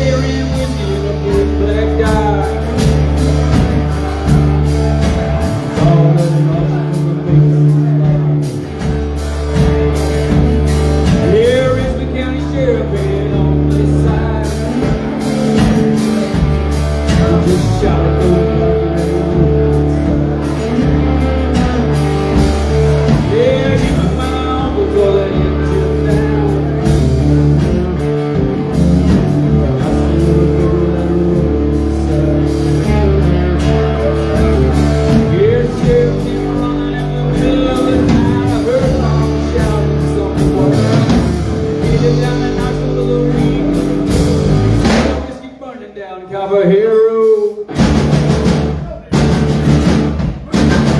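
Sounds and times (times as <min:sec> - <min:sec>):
electric guitar bending notes: 0:00.0 - 0:45.4
steady bass line: 0:00.0 - 0:45.4, 0:47.7 - 0:50.9.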